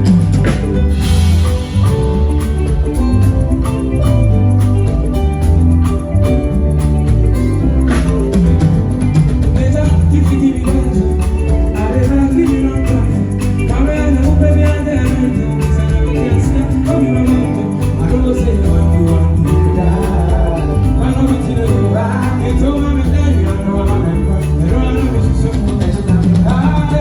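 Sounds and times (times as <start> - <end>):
live band playing upbeat groove: 0.0 - 27.0
shaken percussion: 0.0 - 27.0.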